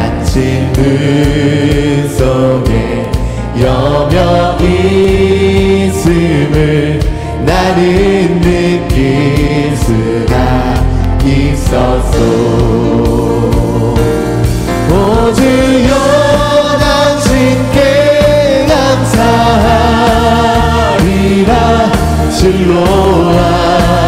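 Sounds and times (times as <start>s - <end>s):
group singing praise song: 0.0s - 24.0s
instrumental accompaniment: 0.0s - 24.0s.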